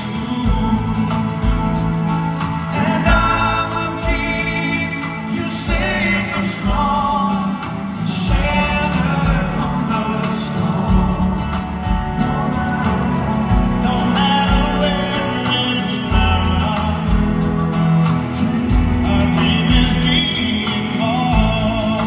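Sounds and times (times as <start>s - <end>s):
live band accompaniment: 0.0s - 22.0s
low bass notes: 0.0s - 22.0s
man singing live into microphone: 0.0s - 22.0s.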